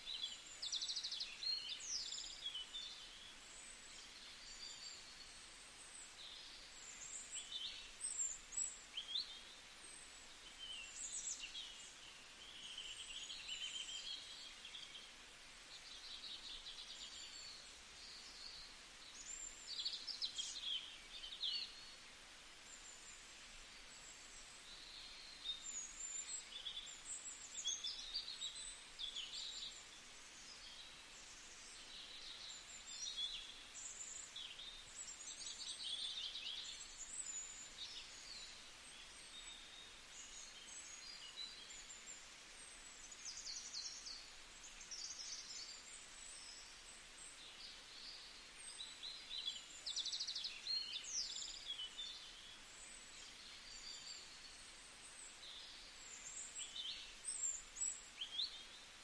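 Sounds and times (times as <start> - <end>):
faint steady hiss: 0.0 - 59.0
small birds chirping: 0.0 - 59.0.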